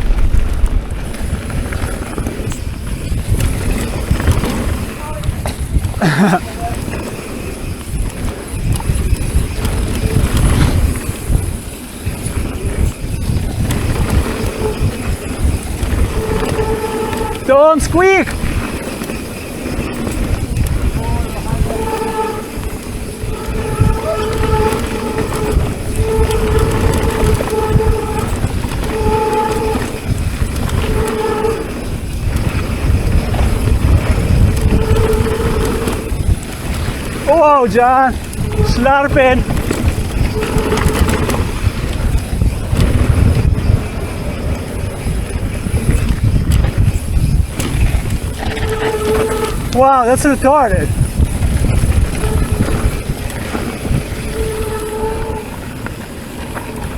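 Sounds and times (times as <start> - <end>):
bike rattling and clicking: 0.0 - 56.9
tyres on dirt trail: 0.0 - 56.9
wind rumbling on microphone: 0.0 - 56.9.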